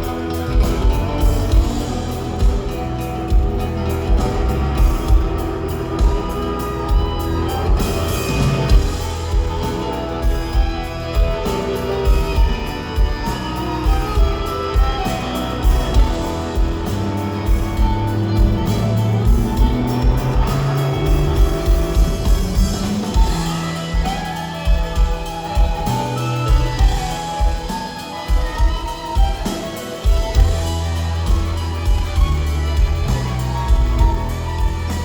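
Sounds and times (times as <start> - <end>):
guitar: 0.0 - 35.0
steady drum beat: 0.0 - 35.0.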